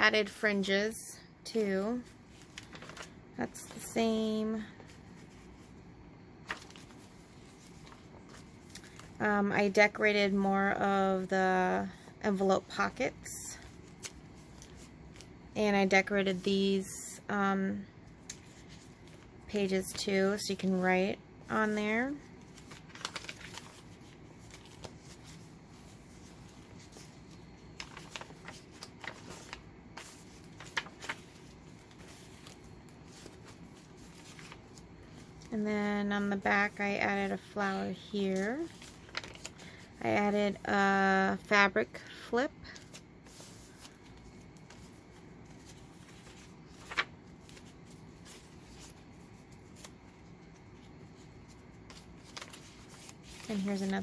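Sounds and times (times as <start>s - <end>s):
paper pages being turned: 1.8s - 5.8s, 6.4s - 10.0s, 13.6s - 16.9s, 18.2s - 20.7s, 21.4s - 41.6s, 42.7s - 54.0s.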